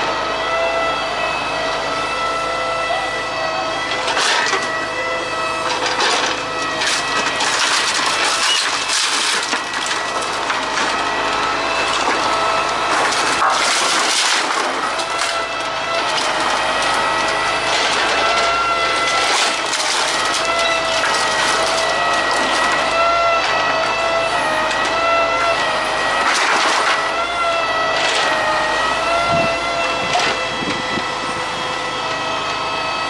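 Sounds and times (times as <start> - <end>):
steady machine whine: 0.0 - 33.0
wood cracking and splintering: 3.9 - 31.1.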